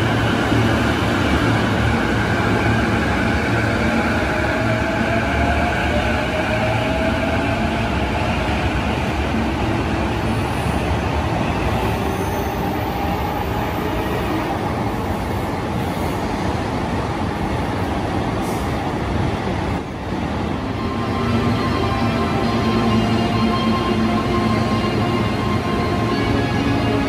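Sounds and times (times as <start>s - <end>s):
train wheels rumbling echoing: 0.0s - 27.0s.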